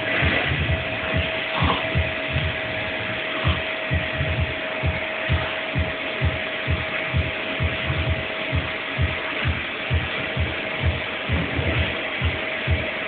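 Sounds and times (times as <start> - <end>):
low repeating thumps: 0.0 - 13.0
vacuum cleaner running: 0.0 - 13.0.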